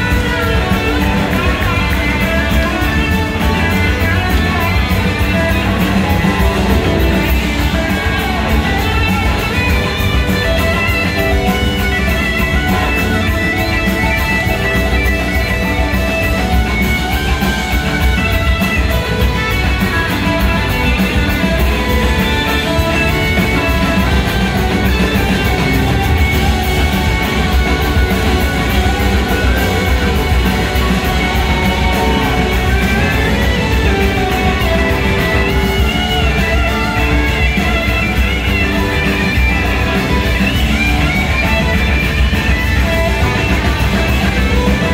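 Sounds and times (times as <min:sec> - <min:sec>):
electric guitar: 0:00.0 - 0:44.9
live rock band playing: 0:00.0 - 0:44.9.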